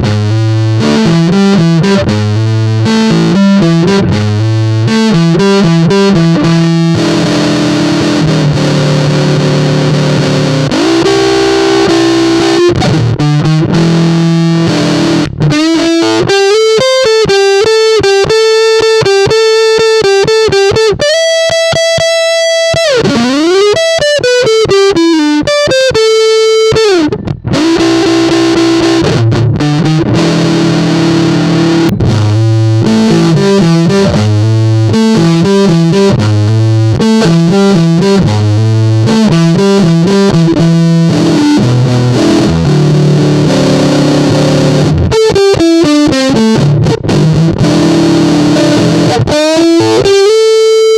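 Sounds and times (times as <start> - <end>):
fuzz electric guitar: 0.0 - 50.9.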